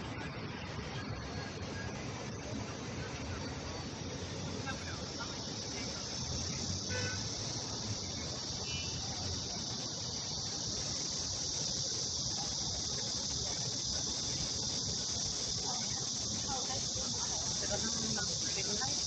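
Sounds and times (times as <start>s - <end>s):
street traffic rumble: 0.0s - 19.0s
high-pitched insect drone: 3.1s - 19.0s.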